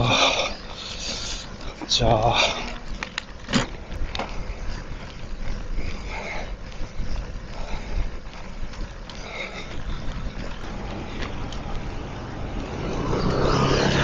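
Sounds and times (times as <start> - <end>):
bicycle tyres rolling on pavement: 0.0 - 14.0.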